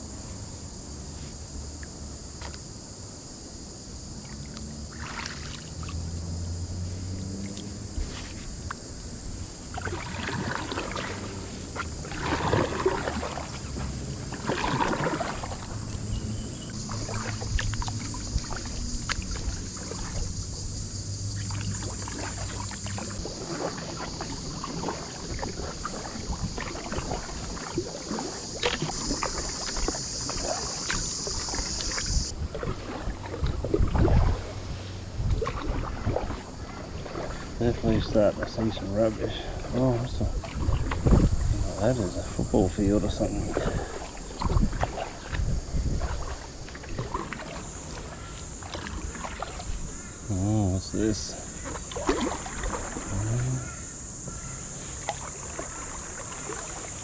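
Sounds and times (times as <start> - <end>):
high-pitched insect drone: 0.0 - 34.0, 34.7 - 57.0
paddle splashing in water: 4.2 - 57.0.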